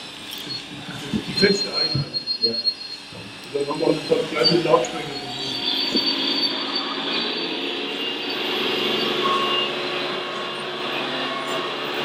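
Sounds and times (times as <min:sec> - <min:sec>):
whining electric motors and gears: 0:00.0 - 0:12.0.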